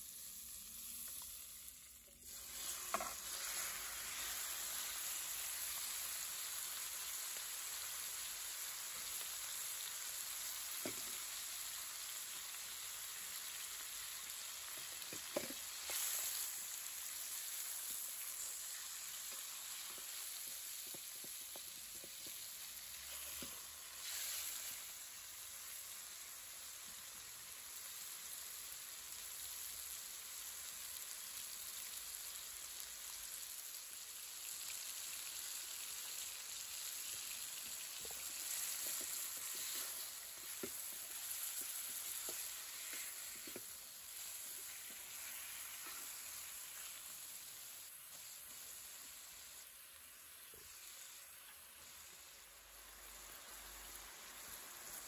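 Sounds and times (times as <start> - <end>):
chicken sizzling in hot oil: 0.0 - 55.0.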